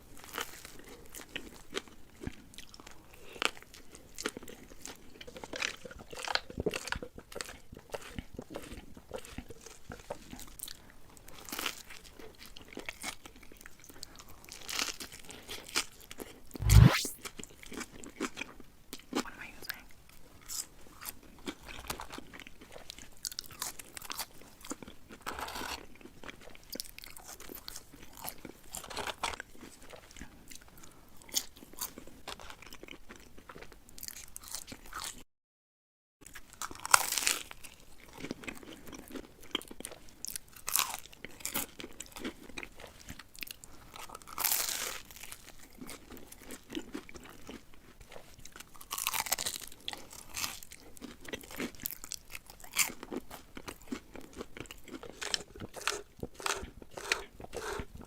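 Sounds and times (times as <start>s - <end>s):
crunching and chewing food: 0.0s - 16.0s, 18.2s - 35.2s, 36.2s - 58.0s.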